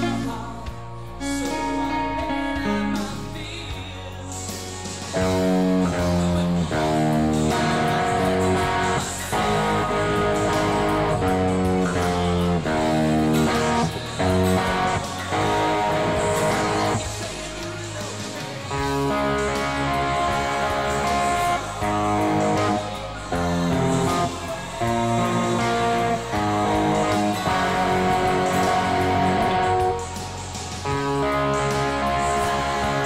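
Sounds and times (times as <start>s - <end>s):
low accompaniment: 0.0s - 4.3s, 5.1s - 33.0s
electric guitar lead melody: 0.0s - 33.0s.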